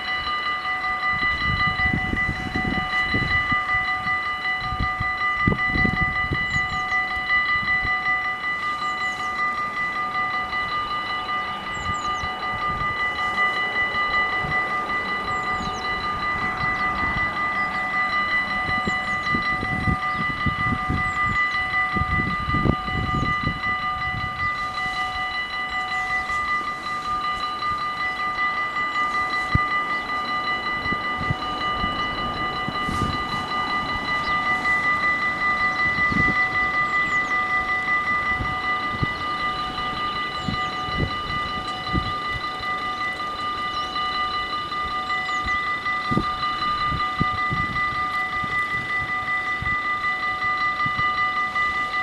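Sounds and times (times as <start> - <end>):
level crossing warning bells: 0.0 - 52.0.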